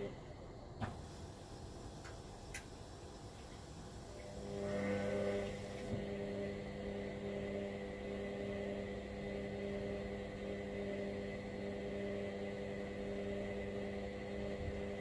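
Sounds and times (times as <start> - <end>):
washer-dryer motor hum: 0.0 - 15.0.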